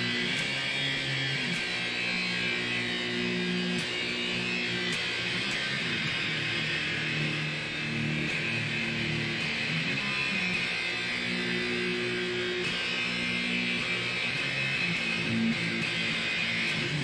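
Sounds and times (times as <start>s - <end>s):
electric guitar heavy metal riff: 0.0s - 17.0s.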